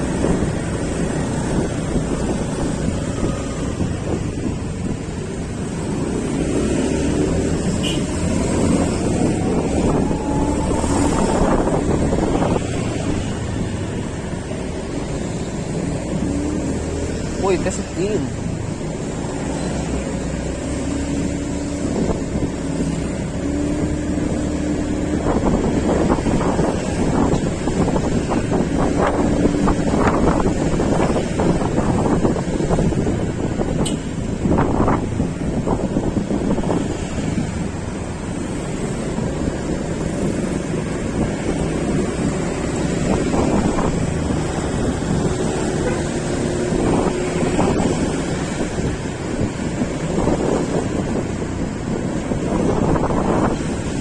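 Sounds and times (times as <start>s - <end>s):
wind buffeting microphone: 0.0s - 17.6s, 18.2s - 54.0s
vehicle engine and road noise: 0.0s - 54.0s.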